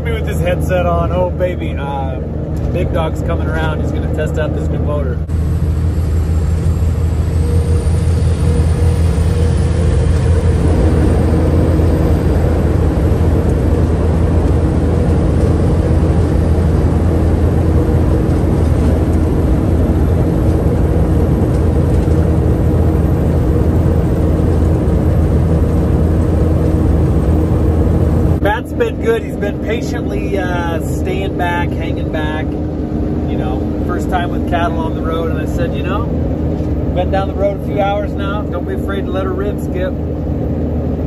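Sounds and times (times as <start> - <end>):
diesel truck engine drone: 0.0 - 41.0
road noise: 0.0 - 41.0.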